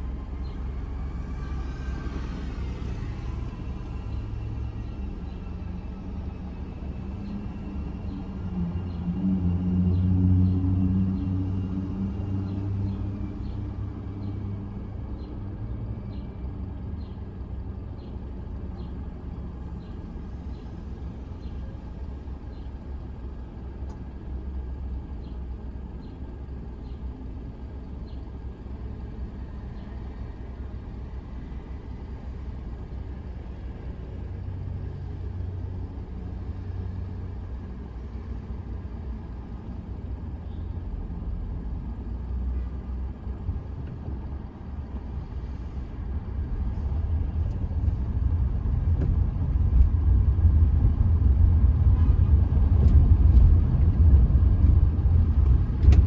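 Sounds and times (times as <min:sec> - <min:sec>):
surrounding traffic: 0:00.0 - 0:56.0.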